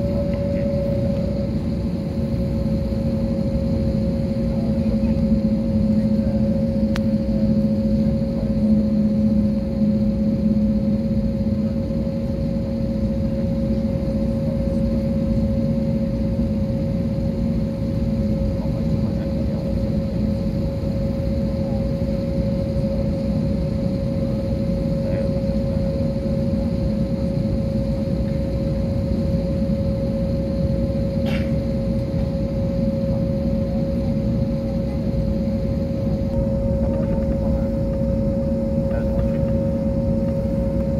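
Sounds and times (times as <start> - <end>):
jet engines droning in cabin: 0.0 - 40.9.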